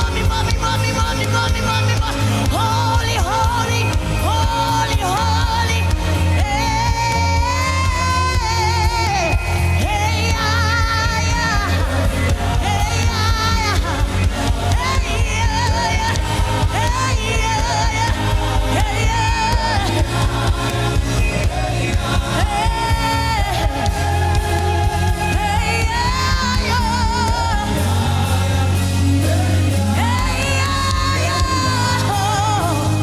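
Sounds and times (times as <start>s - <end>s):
deep bass: 0.0s - 33.0s.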